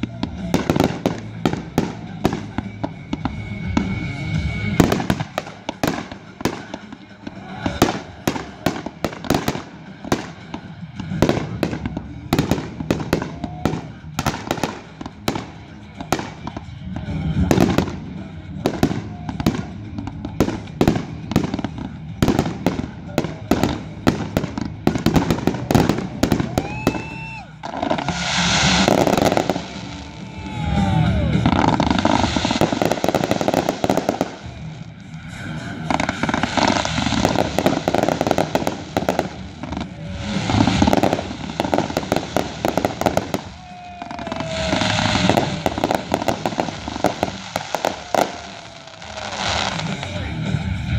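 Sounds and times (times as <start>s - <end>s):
fireworks bangs and crackles: 0.0s - 50.9s
fireworks whistling: 0.0s - 50.9s.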